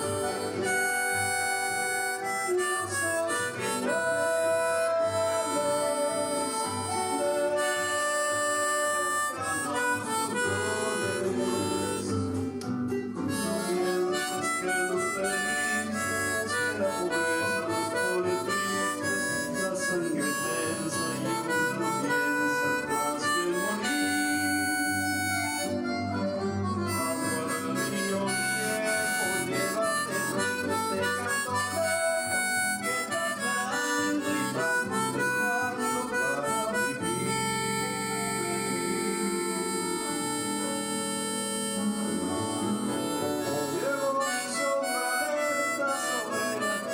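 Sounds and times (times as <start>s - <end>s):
harmonica melody: 0.0s - 46.9s.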